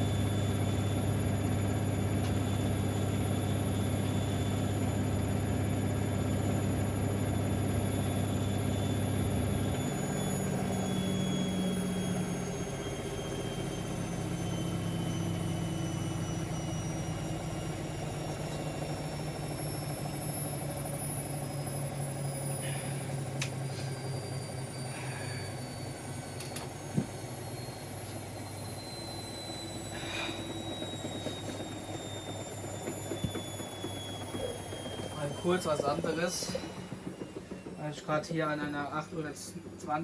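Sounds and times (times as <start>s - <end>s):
washing machine running: 0.0s - 40.0s
high whines falling in pitch: 5.8s - 22.6s, 23.7s - 39.4s.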